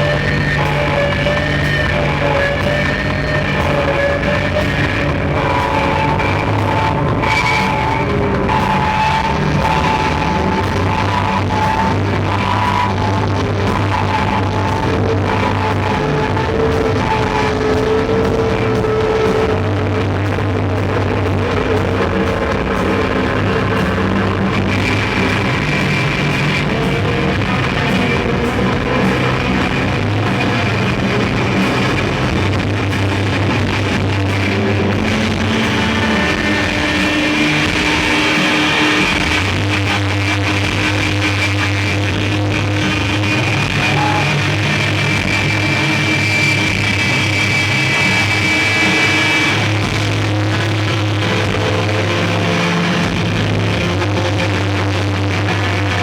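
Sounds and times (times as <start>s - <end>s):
rock band droning electric guitars: 0.0s - 56.0s.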